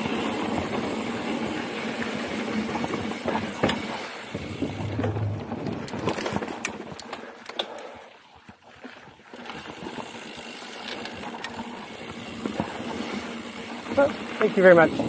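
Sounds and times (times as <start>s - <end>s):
bike clicks and rattles: 0.0s - 15.0s
bike tyre rolling on dirt: 0.0s - 15.0s.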